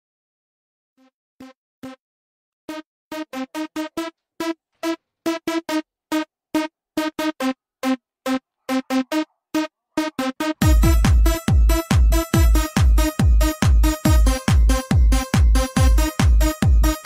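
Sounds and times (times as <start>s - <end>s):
electronic music with clipped notes: 1.0s - 2.0s, 2.7s - 17.0s.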